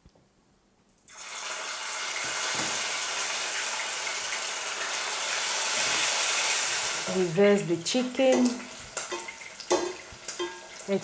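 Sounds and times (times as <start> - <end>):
chicken frying in hot oil: 1.1 - 11.0.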